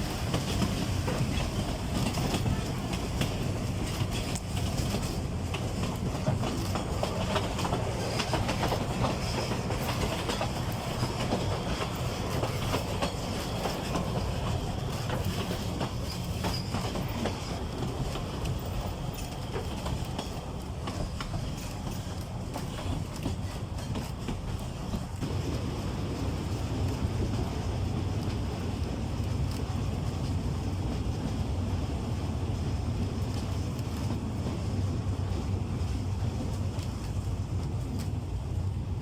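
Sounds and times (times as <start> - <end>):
wheels clicking over rail joints: 0.0 - 38.7
diesel locomotive engine drone: 0.0 - 39.0.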